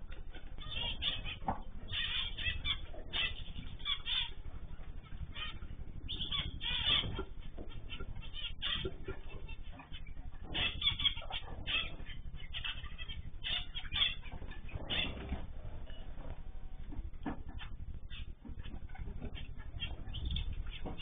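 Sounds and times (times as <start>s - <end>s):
birds chirping and calling: 0.0s - 21.0s
steady low background noise: 0.0s - 21.0s.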